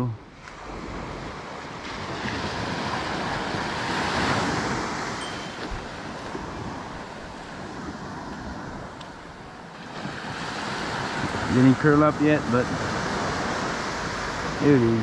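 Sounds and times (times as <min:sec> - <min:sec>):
ocean wave rushing: 0:00.4 - 0:15.0.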